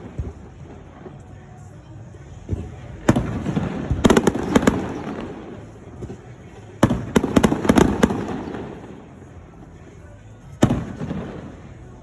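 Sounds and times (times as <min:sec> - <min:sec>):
fireworks crackling: 0:00.0 - 0:10.0.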